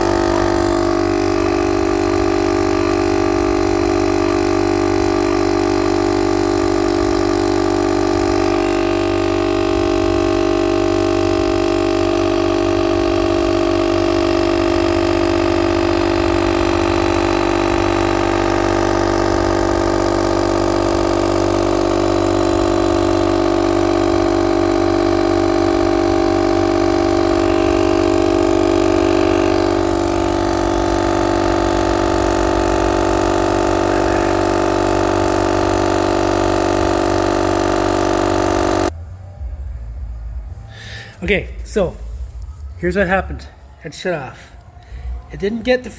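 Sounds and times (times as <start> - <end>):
air compressor motor hum: 0.0 - 45.9.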